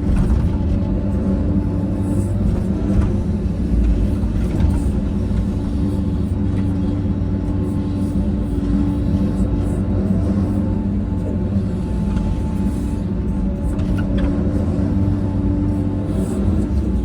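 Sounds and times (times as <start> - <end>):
diesel machine engine rumbling: 0.0 - 17.0.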